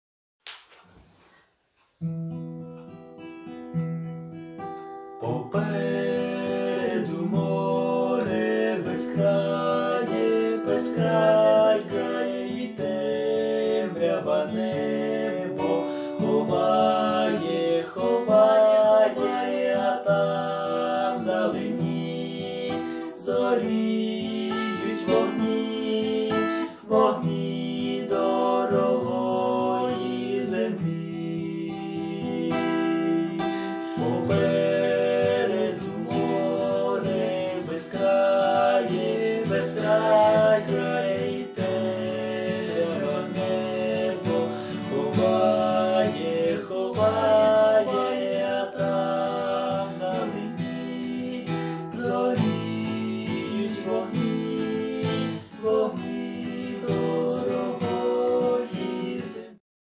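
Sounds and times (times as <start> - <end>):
strummed acoustic guitar: 2.0 - 59.6.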